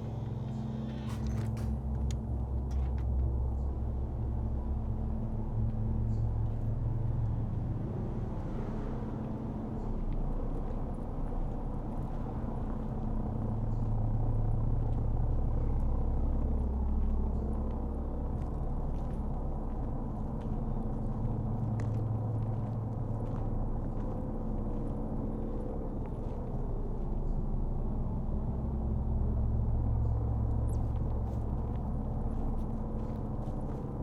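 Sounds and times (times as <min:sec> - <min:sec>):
faint hum: 0:00.0 - 0:34.0
low rumble: 0:00.0 - 0:34.0.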